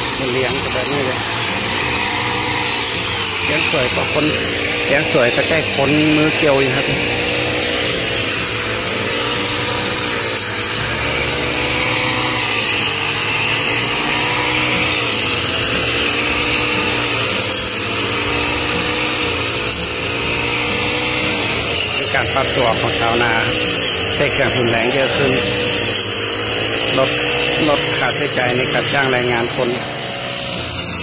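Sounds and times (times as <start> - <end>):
brush cutter engine cutting stalks: 0.0 - 31.0.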